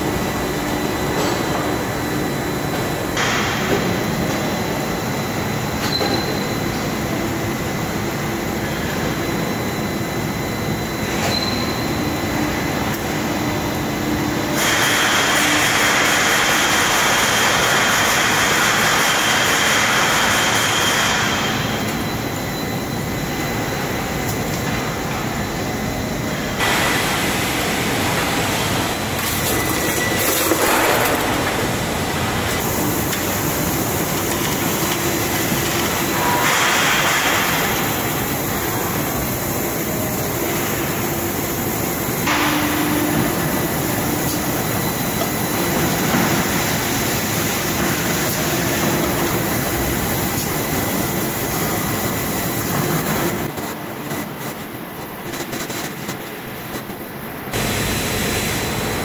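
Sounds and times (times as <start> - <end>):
factory machinery din: 0.0 - 59.0.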